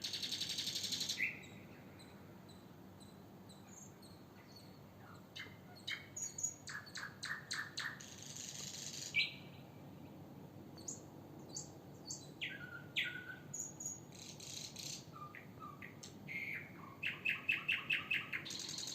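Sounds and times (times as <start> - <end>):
songbirds chirping and singing: 0.0 - 9.7, 10.8 - 18.9.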